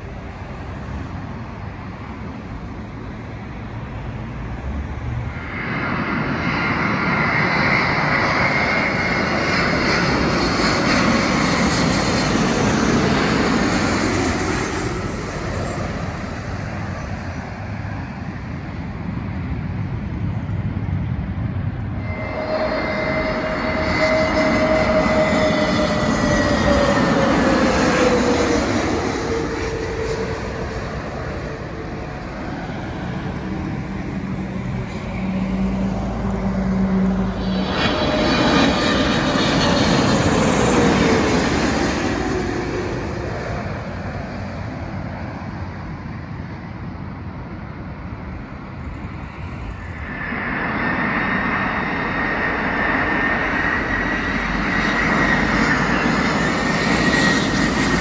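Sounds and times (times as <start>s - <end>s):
high whine of approaching jet: 0.0s - 58.0s
jet airliner passing overhead: 0.0s - 58.0s.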